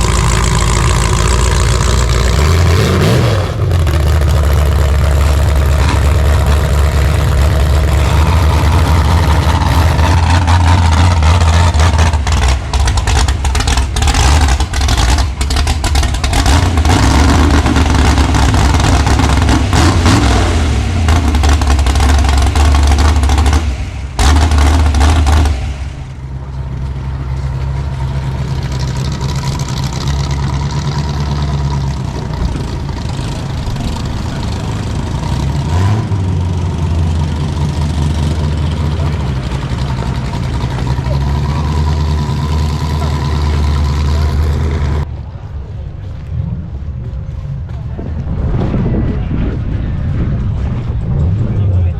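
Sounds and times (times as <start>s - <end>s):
car engine running rough: 0.0s - 51.9s.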